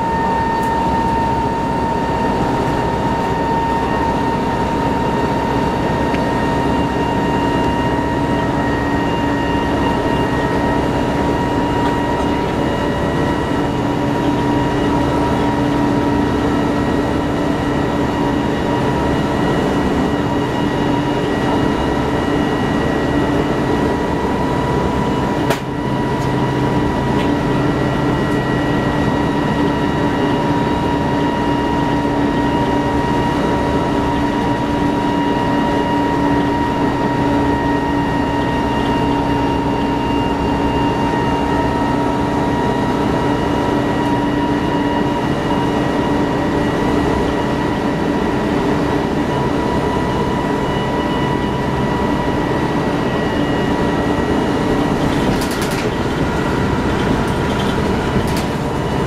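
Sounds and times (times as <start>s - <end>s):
bus diesel engine droning: 0.0s - 59.0s
transmission whine: 0.0s - 59.0s.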